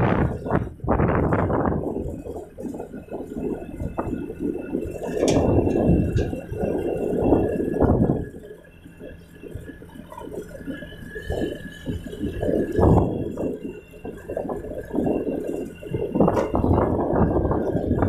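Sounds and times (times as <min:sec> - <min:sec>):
wind buffeting microphone: 0:00.0 - 0:08.5, 0:09.4 - 0:18.0
motorbike whine: 0:00.0 - 0:18.0.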